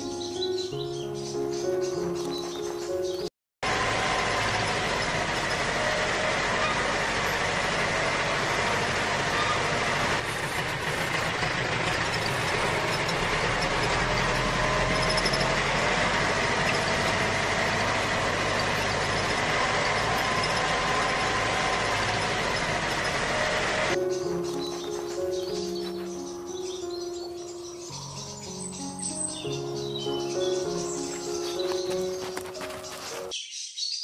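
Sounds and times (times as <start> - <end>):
vehicle engine running: 1.7 - 33.3.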